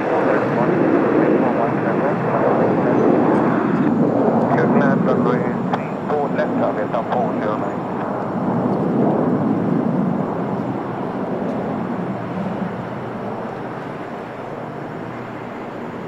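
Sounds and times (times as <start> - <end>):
jet engines roaring at takeoff: 0.0 - 16.0.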